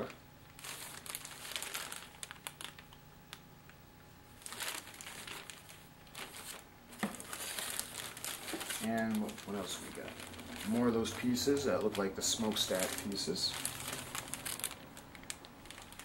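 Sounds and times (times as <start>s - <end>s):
plastic bags crinkling: 0.5s - 3.0s, 4.3s - 16.0s.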